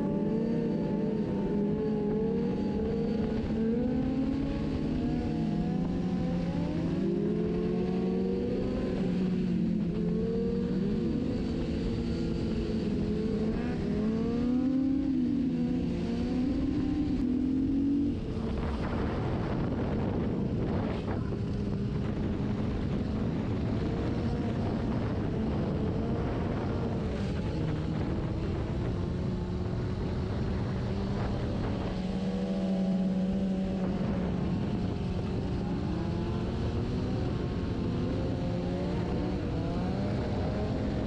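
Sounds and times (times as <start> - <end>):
motorcycle engines revving: 0.0 - 41.0
steady noisy engine: 0.0 - 41.0.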